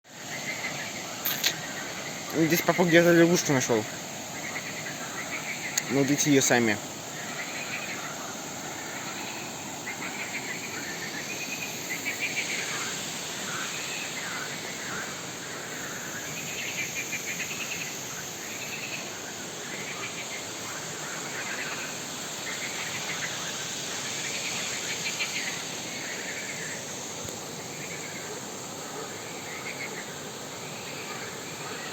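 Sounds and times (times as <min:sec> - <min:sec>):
insects chirping: 0:00.1 - 0:31.9
insects droning: 0:00.1 - 0:31.9.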